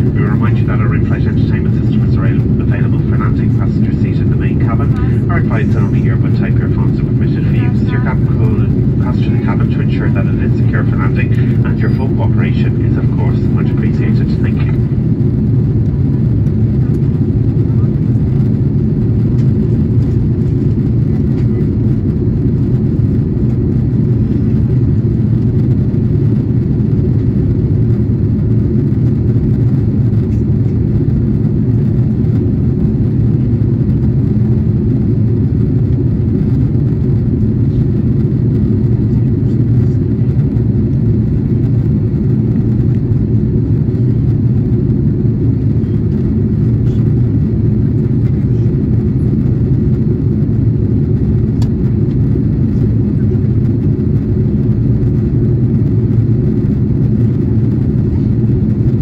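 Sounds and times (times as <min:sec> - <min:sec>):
aircraft engine rumble: 0:00.0 - 0:59.0.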